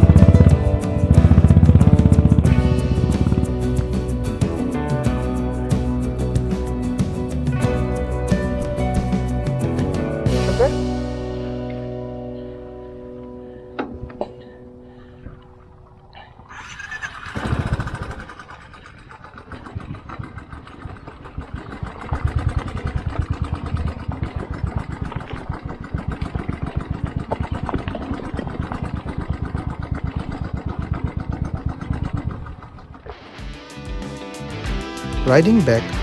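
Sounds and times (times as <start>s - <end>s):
motorcycle engine starting and running: 0.0s - 36.0s.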